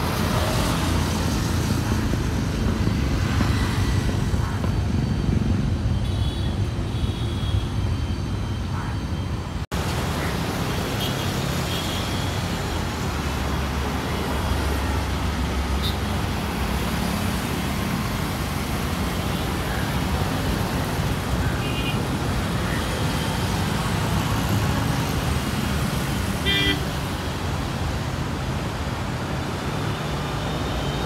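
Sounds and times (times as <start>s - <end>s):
cars passing: 0.0s - 7.2s, 7.9s - 31.0s
motorbikes passing: 0.0s - 7.5s, 9.7s - 31.0s.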